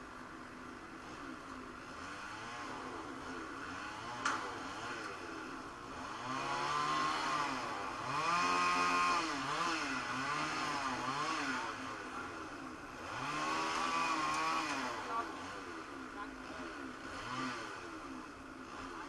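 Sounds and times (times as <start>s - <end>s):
small petrol engines revving: 0.4s - 19.0s.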